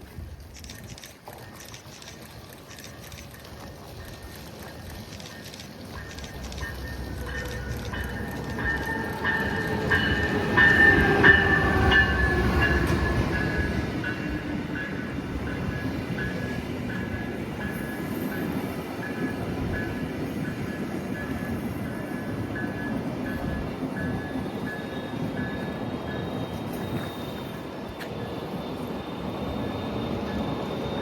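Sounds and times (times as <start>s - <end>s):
train passing on rails: 0.0s - 31.0s.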